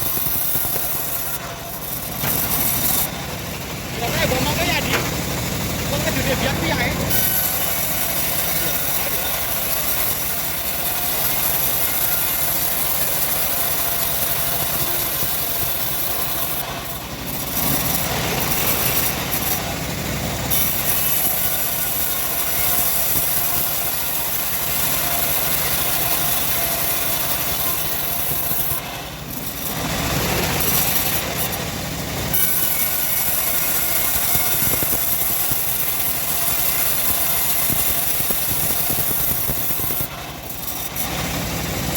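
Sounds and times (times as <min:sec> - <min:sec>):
engine running: 0:00.0 - 0:41.9
saw blade rasping through wood: 0:00.0 - 0:41.9.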